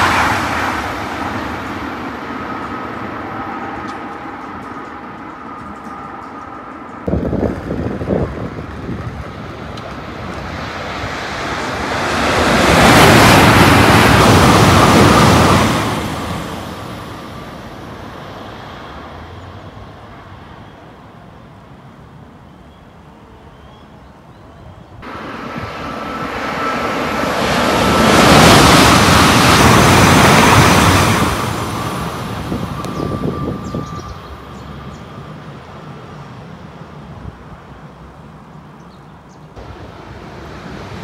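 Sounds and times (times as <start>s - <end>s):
trains passing at speed: 0.0s - 41.0s.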